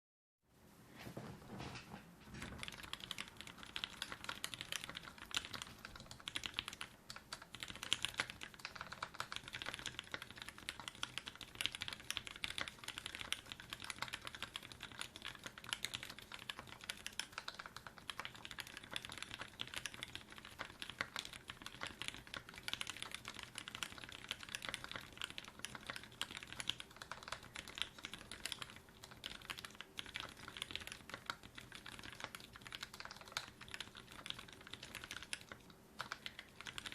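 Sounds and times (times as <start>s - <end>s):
mechanical keyboard typing: 2.4s - 36.9s.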